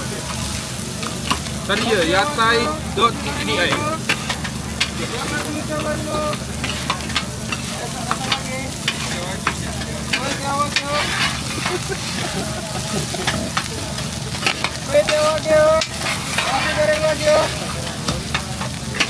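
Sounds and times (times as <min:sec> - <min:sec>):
rice sizzling on a griddle: 0:00.0 - 0:19.0
metal spatulas scraping and clacking: 0:00.3 - 0:02.4, 0:03.2 - 0:19.0.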